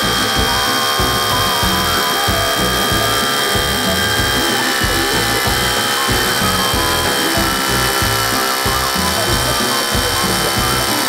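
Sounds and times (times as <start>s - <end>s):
background music with beat: 0.0s - 11.0s
rotary hammer drilling concrete: 0.0s - 11.0s.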